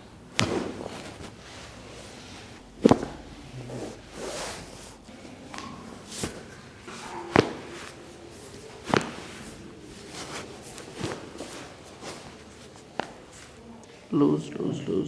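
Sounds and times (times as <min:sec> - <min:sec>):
back cracking: 0:00.2 - 0:13.6.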